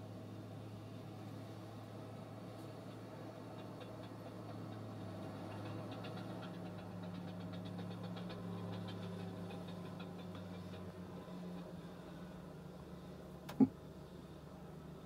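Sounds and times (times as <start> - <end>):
bulldozer engine drone: 0.0 - 15.0.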